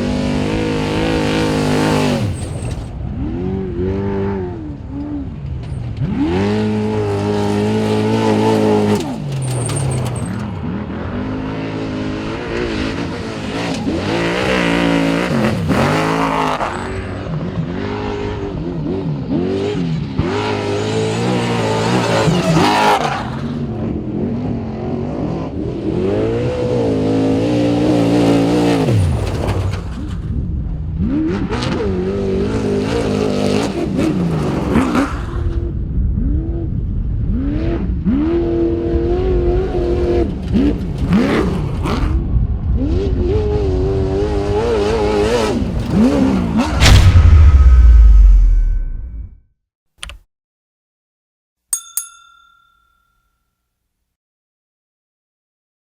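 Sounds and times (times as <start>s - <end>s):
truck engines revving hard: 0.0s - 36.6s, 37.2s - 47.3s
rushing tyre and dirt noise: 0.0s - 49.4s.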